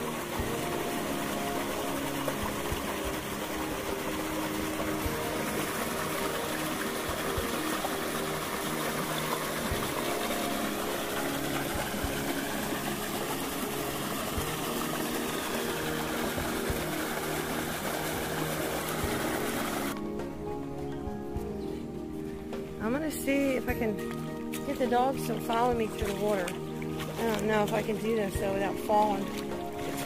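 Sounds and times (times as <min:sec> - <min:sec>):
stream rushing over rocks: 0:00.0 - 0:20.0, 0:24.4 - 0:30.0.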